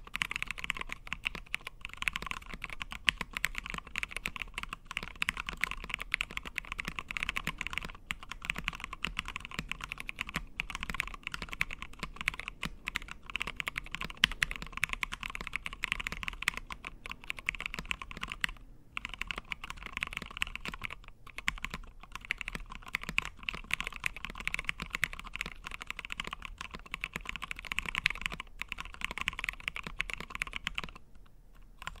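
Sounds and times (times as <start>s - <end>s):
typing on mechanical keyboard: 0.0s - 32.0s.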